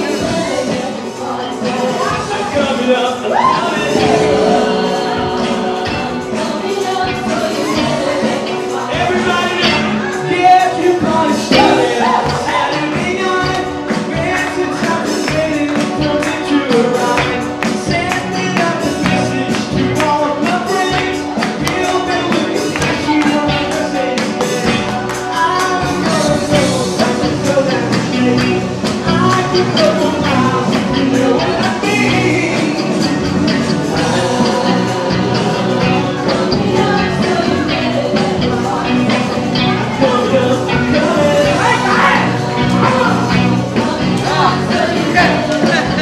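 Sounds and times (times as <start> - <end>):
guitar: 0.0 - 46.0
people singing: 0.0 - 46.0.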